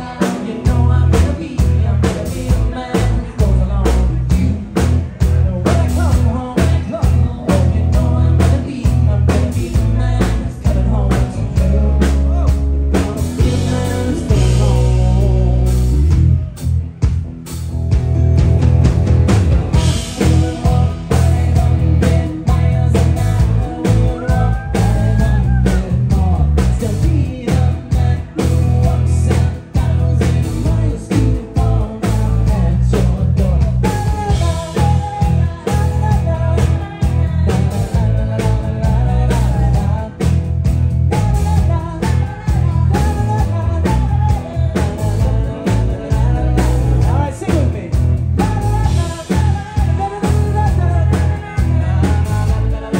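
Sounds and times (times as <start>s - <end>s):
man singing: 0.0s - 17.0s, 19.6s - 52.9s.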